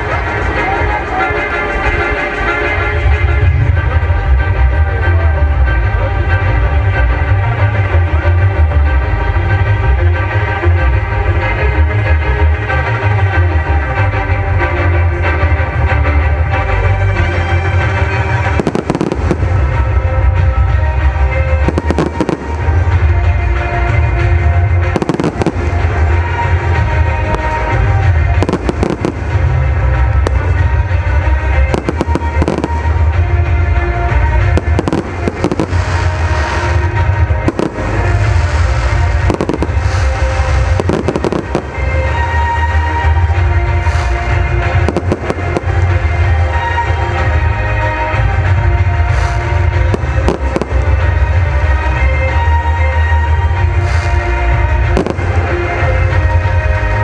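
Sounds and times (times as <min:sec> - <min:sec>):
fireworks bangs and crackles: 0:00.0 - 0:57.0
loud music: 0:00.0 - 0:57.0.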